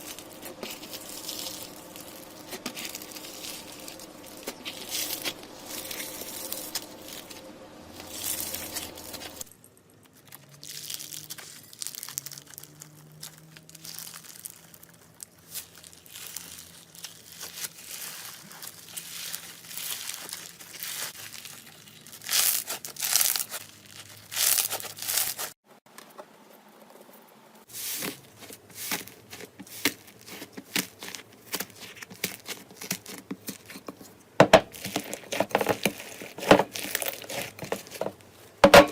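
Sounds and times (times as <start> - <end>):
slime crackling and popping: 0.0 - 25.6, 28.8 - 33.9, 34.7 - 38.2.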